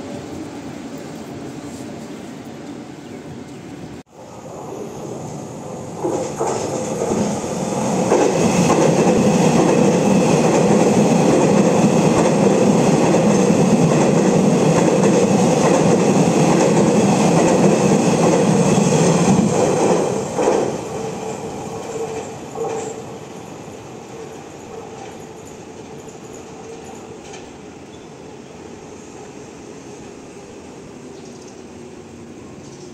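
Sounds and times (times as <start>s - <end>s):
train passing on tracks: 0.0s - 32.9s.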